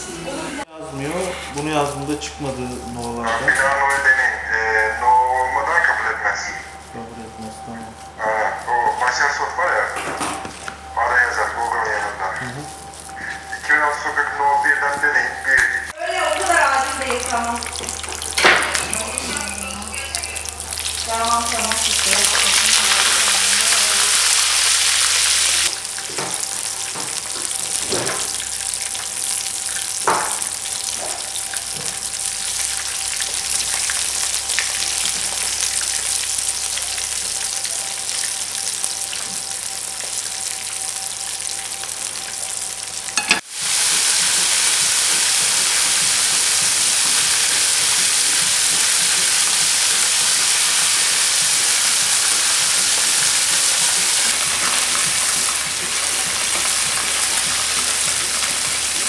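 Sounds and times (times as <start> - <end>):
oil sizzling while deep-frying: 0.9 - 59.0.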